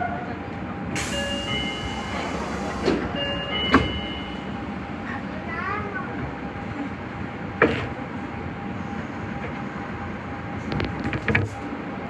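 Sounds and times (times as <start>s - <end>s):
subway train humming: 0.0s - 10.7s, 11.5s - 12.0s.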